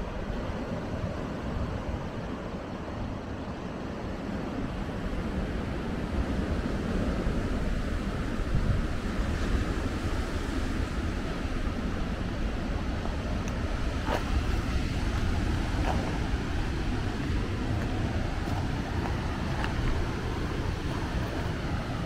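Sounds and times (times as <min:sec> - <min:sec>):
ocean surf rushing: 0:00.0 - 0:22.0
wind rumbling on microphone: 0:00.0 - 0:22.0.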